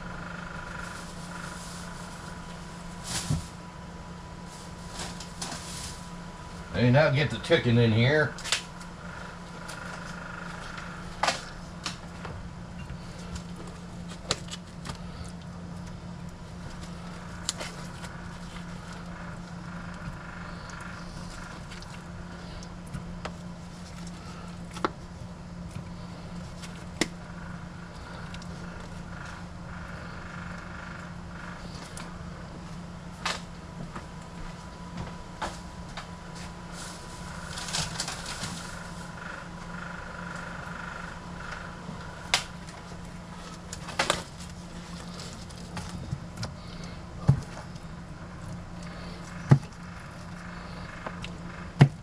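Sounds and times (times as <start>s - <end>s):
air conditioner hum: 0.0s - 52.0s.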